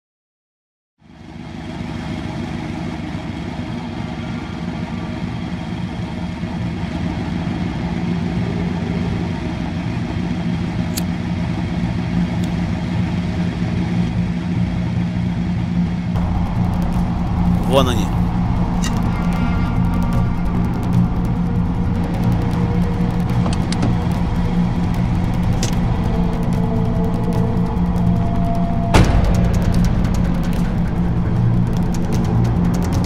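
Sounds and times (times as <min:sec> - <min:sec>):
car engine idling: 0:01.1 - 0:33.0.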